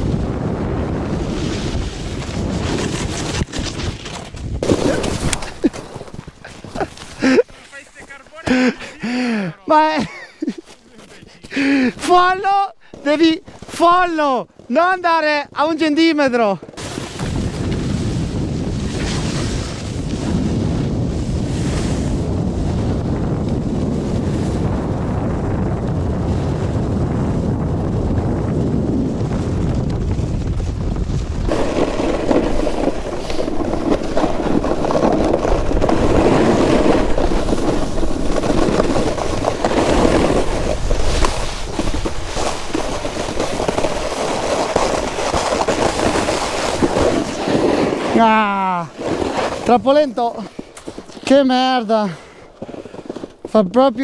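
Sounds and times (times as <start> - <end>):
wind buffeting microphone: 0.0 - 10.6, 16.7 - 51.4
snowboard scraping over snow: 0.0 - 54.0.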